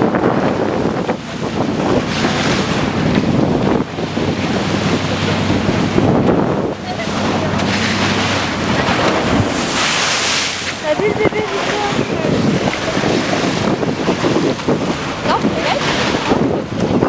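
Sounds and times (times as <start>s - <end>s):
bow wave splashing: 0.0s - 17.0s
low boat engine hum: 0.0s - 17.0s
wind buffeting microphone: 0.0s - 17.0s.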